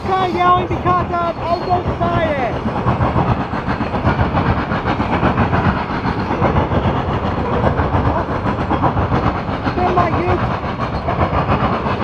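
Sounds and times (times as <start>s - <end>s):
train wheels rumbling on rail: 0.0s - 12.0s
wheels clacking over rail joints: 0.0s - 12.0s.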